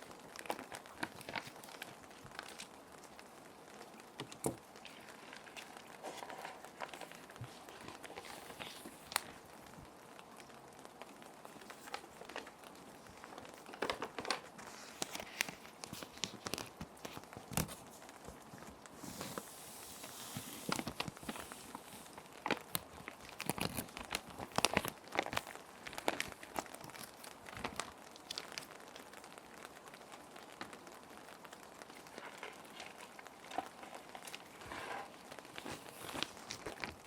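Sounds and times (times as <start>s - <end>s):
plastic sheets crinkling: 0.0s - 37.0s
steady rain-like hiss: 0.0s - 37.0s.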